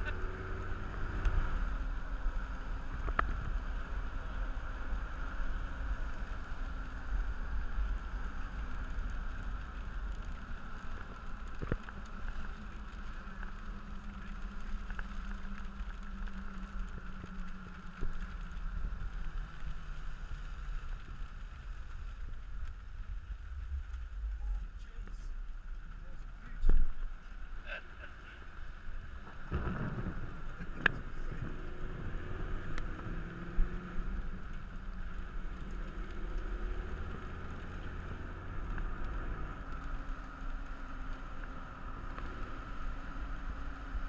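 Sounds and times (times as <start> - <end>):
car driving on wet road: 0.0 - 44.0.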